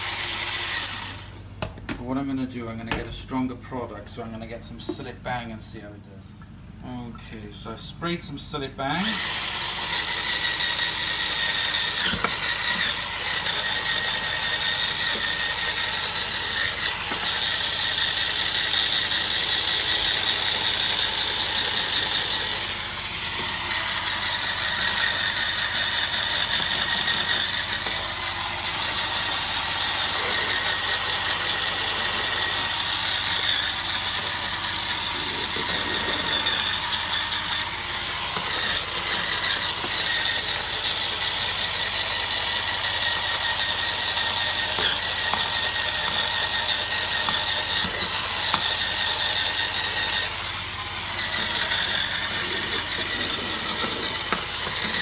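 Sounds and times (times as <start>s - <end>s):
motorised scrub brush whirring: 0.0s - 1.4s, 8.9s - 55.0s.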